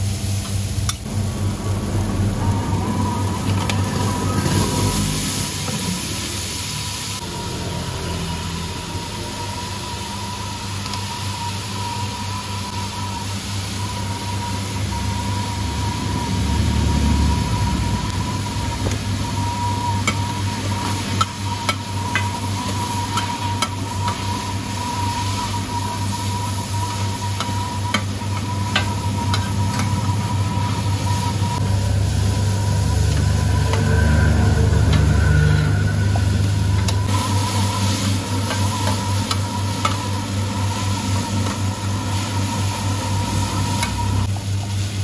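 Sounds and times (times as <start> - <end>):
noodles sizzling in a pan: 0.0 - 45.0.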